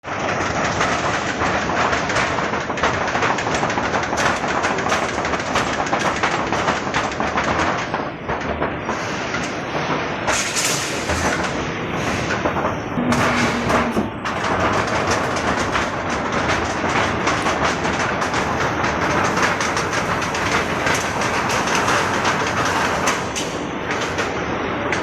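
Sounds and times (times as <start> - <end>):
roll-forming machine rattling: 0.0 - 25.0.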